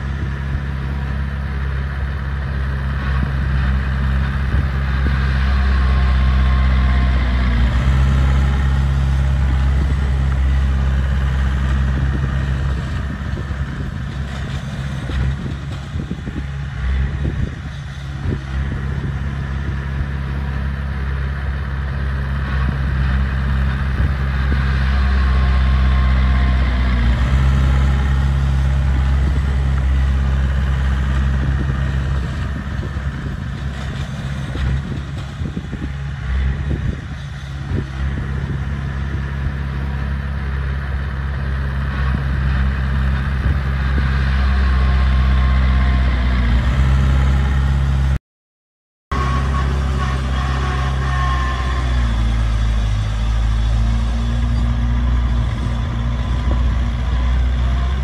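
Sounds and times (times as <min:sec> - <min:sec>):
bulldozer diesel engine under load: 0:00.0 - 0:48.2, 0:49.1 - 0:58.0.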